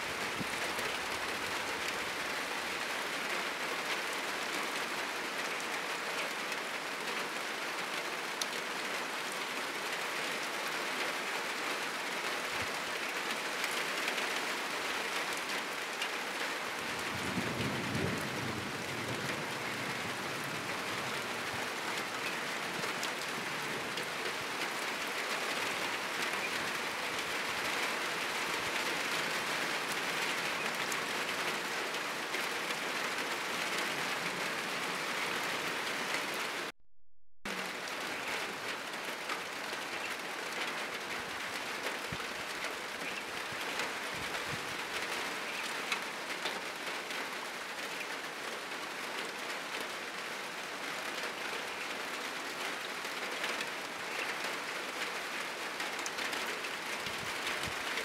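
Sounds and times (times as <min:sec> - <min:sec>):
heavy rain on roof and trees: 0:00.0 - 0:36.8, 0:37.5 - 0:58.0.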